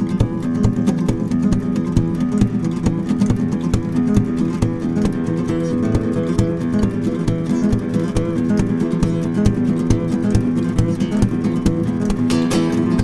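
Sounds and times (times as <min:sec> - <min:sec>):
strummed guitar music with beat: 0:00.0 - 0:13.0.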